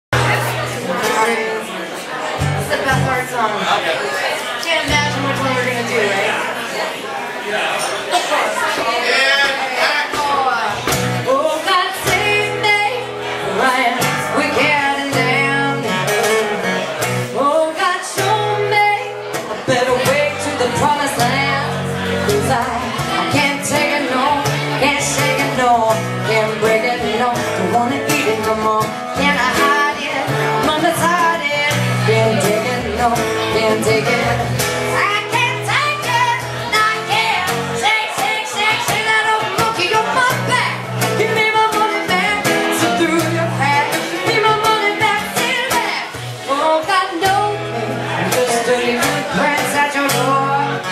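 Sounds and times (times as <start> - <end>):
acoustic guitar: 0.1 - 50.9
woman singing into microphone: 0.2 - 1.7, 10.1 - 50.9.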